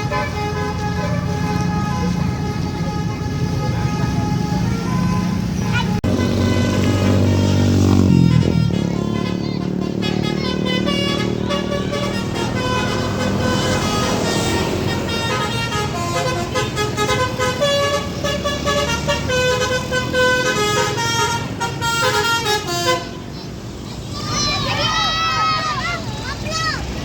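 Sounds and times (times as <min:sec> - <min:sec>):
melodic bus horn tune: 0:00.0 - 0:23.6
bus engine running: 0:00.0 - 0:27.0.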